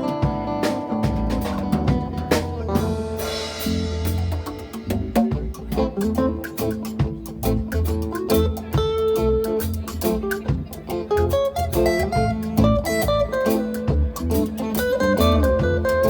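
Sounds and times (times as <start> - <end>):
bass and drums: 0.0 - 16.0
plucked guitar notes: 0.0 - 16.0.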